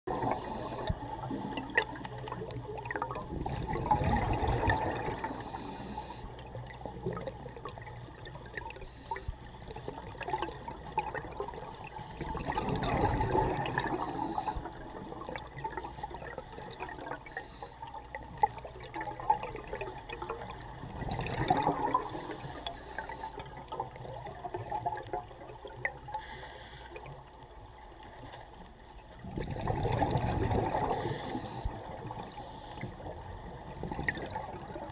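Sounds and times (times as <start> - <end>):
underwater regulator bubbling exhale: 0.1 - 7.8, 8.6 - 18.1, 19.1 - 25.0, 29.2 - 34.9.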